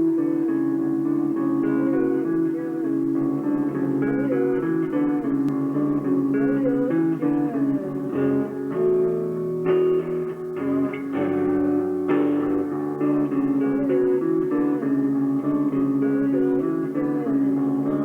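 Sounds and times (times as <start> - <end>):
bending guitar notes: 0.0 - 18.0.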